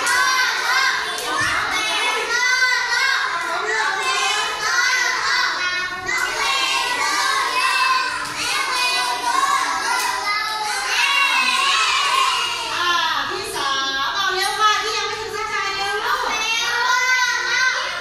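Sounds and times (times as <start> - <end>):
children singing and chanting: 0.0 - 13.4, 15.9 - 18.0.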